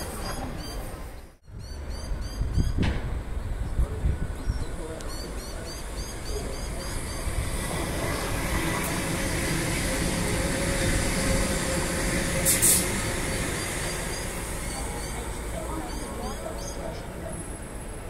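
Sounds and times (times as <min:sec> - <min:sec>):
train hum: 0:00.0 - 0:18.0
train wheels rumbling on rail: 0:01.8 - 0:18.0.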